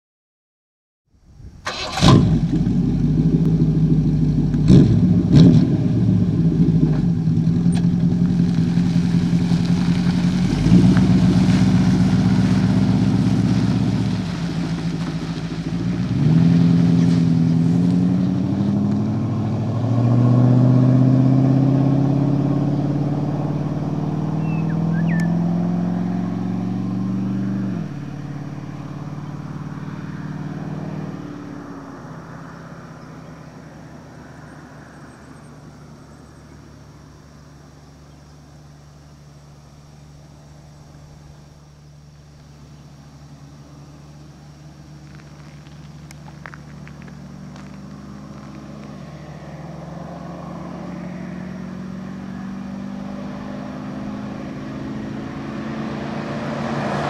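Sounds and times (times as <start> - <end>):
car engine revving: 1.7 - 37.2, 43.2 - 57.0.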